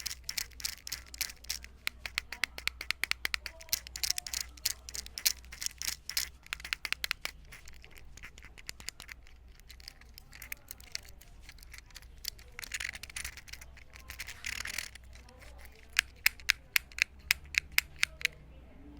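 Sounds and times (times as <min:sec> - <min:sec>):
fidget toy clicks and rattles: 0:00.0 - 0:18.4
scratchy rubbing: 0:00.0 - 0:18.4
sharp fidget toy clicks: 0:00.0 - 0:18.4.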